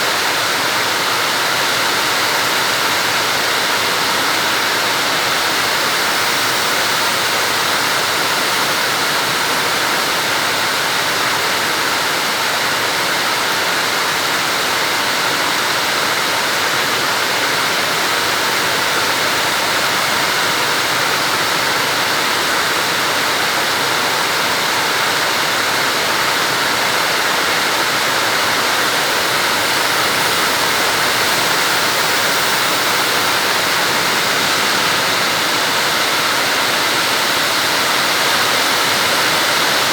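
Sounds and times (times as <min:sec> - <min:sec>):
floodwater rushing along road: 0:00.0 - 0:39.9
heavy rain pouring: 0:00.0 - 0:39.9.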